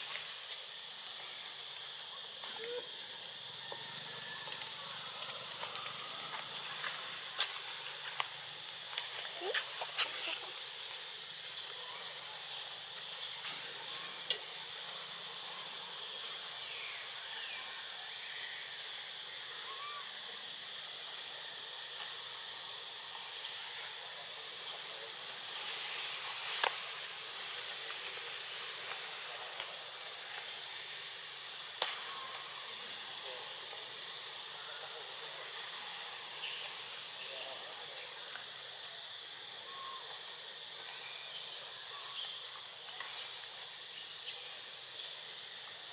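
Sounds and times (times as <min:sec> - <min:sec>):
high insect drone: 0:00.0 - 0:45.9.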